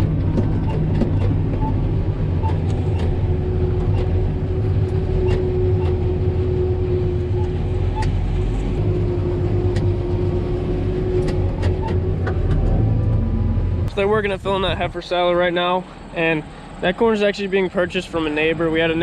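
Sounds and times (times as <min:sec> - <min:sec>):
silage blower hum: 0:00.0 - 0:19.0
tractor engine low drone: 0:00.0 - 0:19.0.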